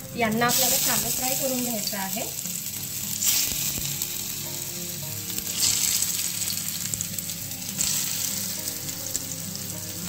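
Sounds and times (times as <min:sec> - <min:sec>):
oil sizzling on a griddle: 0:00.2 - 0:10.0.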